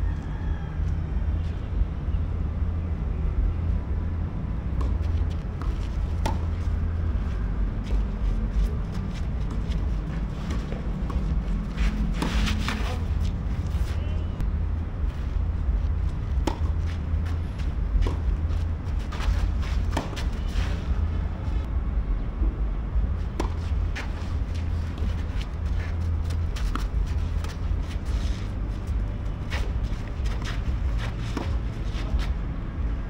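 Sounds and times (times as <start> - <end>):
low rumble: 0.9 - 33.0.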